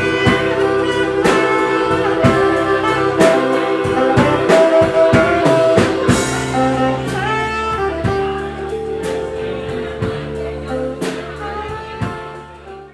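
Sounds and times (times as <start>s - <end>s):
band playing music: 0.0s - 12.9s
drums beating: 0.0s - 12.9s.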